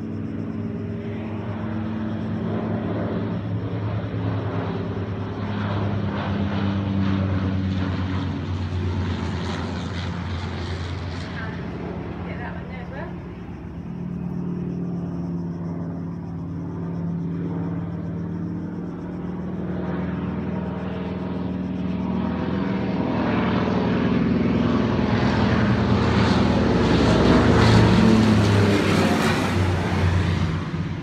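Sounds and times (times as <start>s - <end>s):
airplane engine drone: 0.0s - 31.0s.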